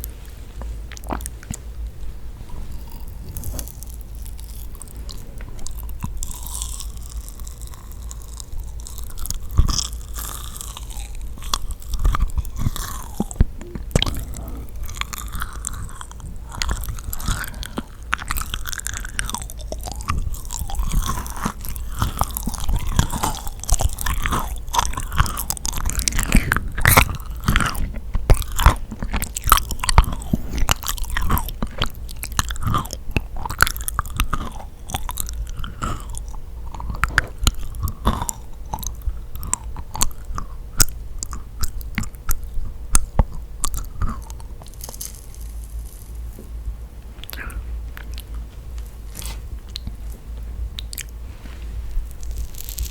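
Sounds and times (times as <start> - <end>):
person chewing sticky cookie: 0.0 - 52.9.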